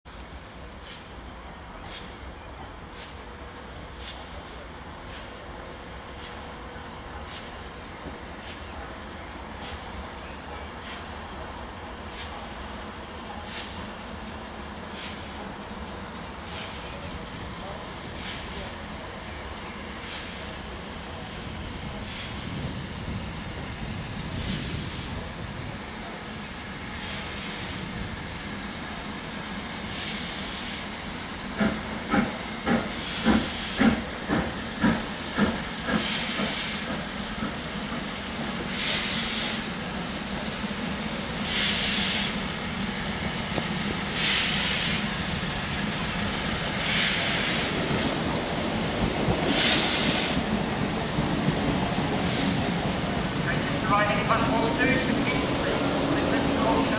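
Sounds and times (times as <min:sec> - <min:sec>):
steam locomotive hissing steam: 0:00.1 - 0:56.9
train running past: 0:00.1 - 0:56.9
locomotive loud chuffing beats: 0:09.6 - 0:56.9.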